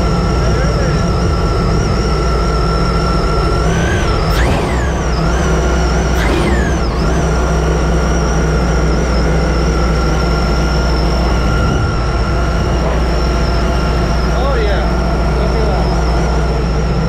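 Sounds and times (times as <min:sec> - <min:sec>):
supercharger whine: 0:00.0 - 0:17.0
watercraft engine revving: 0:00.0 - 0:17.0.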